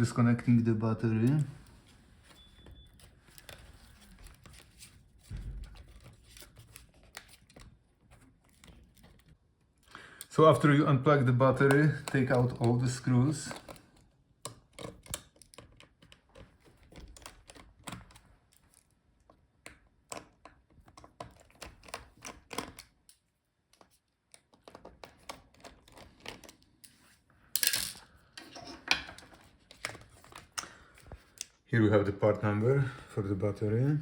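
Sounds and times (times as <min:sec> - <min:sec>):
laptop parts being handled: 0:00.4 - 0:10.3, 0:11.5 - 0:31.6.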